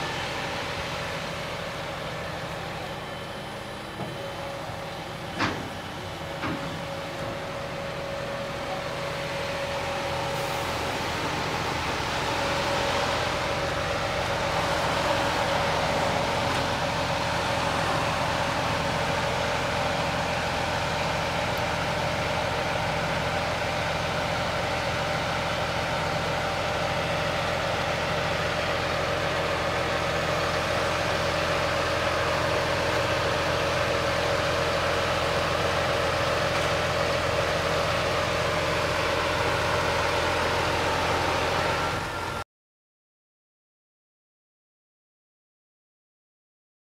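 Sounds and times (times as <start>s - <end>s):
hydraulic whine: 0.0s - 42.4s
truck diesel engine idling: 0.0s - 42.4s.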